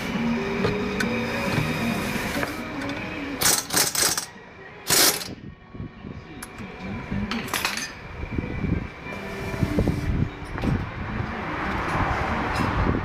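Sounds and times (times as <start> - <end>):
mechanical workshop noises: 0.0 - 12.9.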